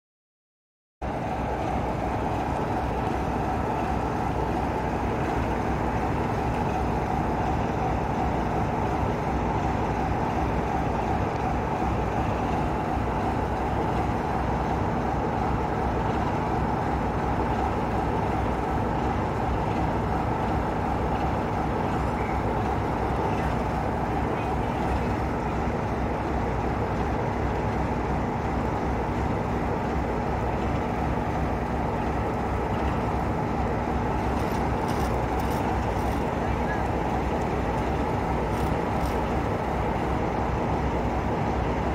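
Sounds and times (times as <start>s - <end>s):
diesel locomotive engine idling: 1.0s - 41.9s.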